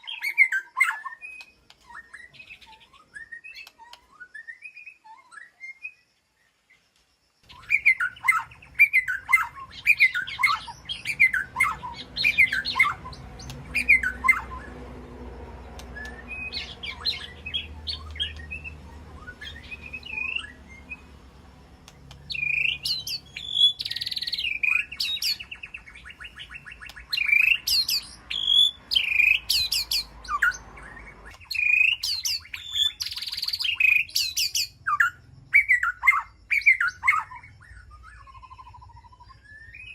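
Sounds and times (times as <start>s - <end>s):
bird chirping and whistling: 0.0s - 6.0s, 7.5s - 14.8s, 15.8s - 21.2s, 21.8s - 39.9s.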